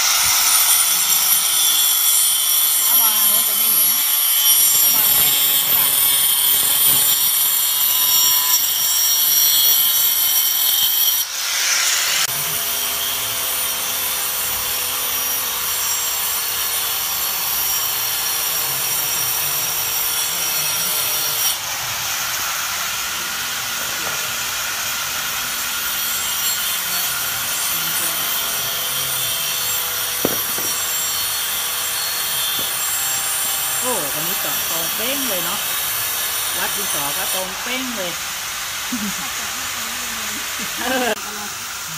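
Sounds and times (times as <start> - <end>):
angle grinder cutting wood: 0.0 - 41.9
electric drill boring into wood: 0.0 - 41.9.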